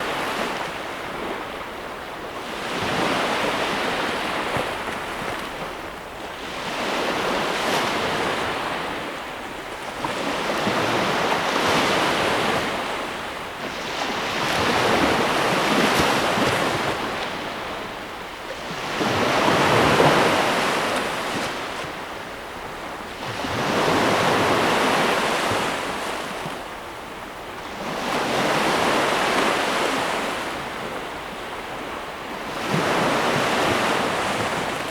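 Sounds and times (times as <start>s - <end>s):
ocean waves breaking: 0.0s - 26.7s, 27.7s - 34.9s.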